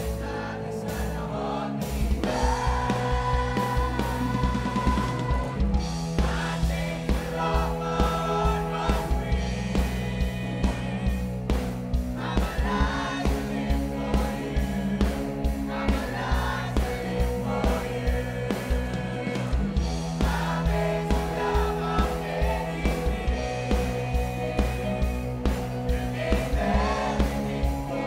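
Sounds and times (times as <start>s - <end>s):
mixed choir singing gospel: 0.0s - 28.0s
sustained bass notes: 0.0s - 28.0s
music with steady beat: 1.8s - 28.0s.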